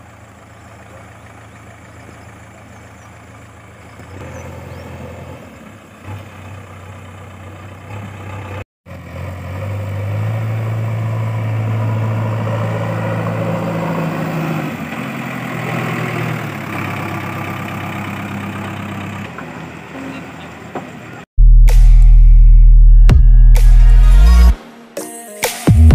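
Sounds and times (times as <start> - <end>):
diesel engine running: 0.0 - 24.6.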